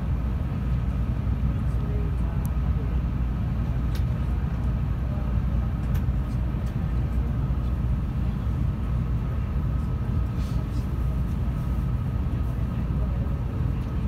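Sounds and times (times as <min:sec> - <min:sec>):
train car low rumble and hum: 0:00.0 - 0:14.0.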